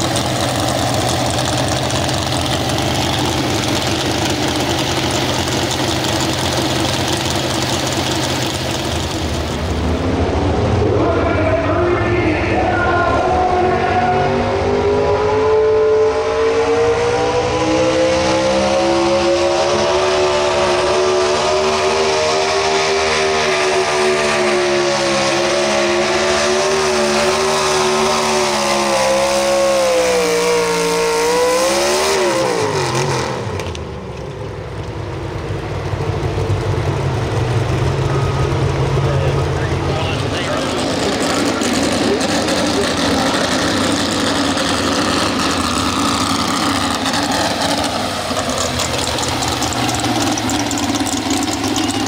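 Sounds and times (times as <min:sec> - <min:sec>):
truck engine at full throttle: 0:00.0 - 0:52.0.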